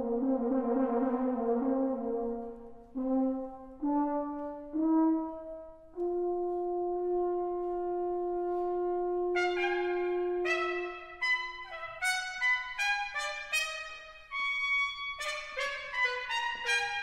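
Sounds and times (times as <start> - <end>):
french horn playing: 0.0 - 17.0.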